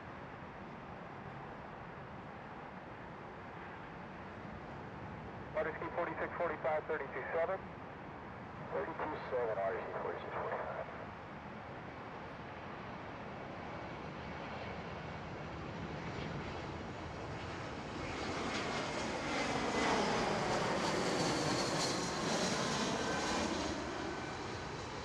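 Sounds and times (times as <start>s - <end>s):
jet airliner passing overhead: 3.2s - 25.0s.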